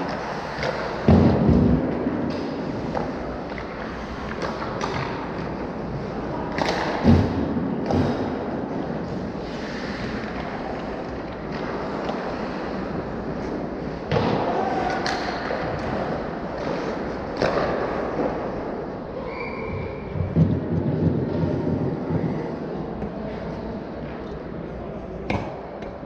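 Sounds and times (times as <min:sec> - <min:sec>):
hockey game play noise: 0:00.0 - 0:26.0.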